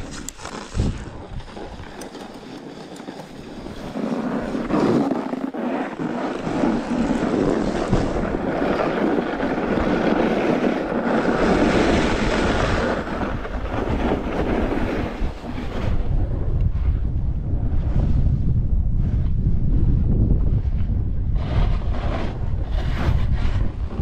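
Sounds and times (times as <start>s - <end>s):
snowboard scraping over snow: 0.0s - 24.0s
wind on microphone: 0.0s - 24.0s.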